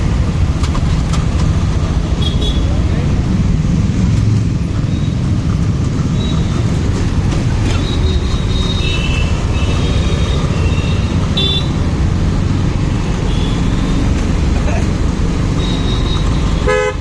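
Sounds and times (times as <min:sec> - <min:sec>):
motorcycle engine and road noise: 0:00.0 - 0:17.0.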